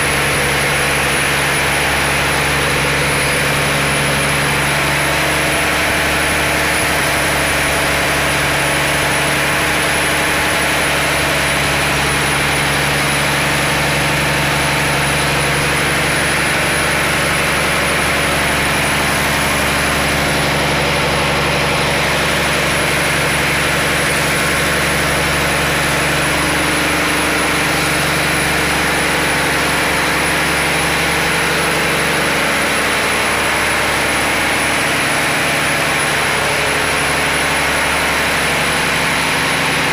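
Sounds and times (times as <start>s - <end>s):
diesel boat engine droning: 0.0s - 39.9s.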